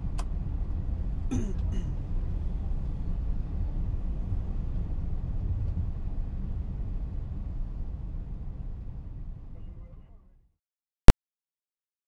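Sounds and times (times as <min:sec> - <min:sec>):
aircraft cockpit low rumble: 0:00.0 - 0:10.6.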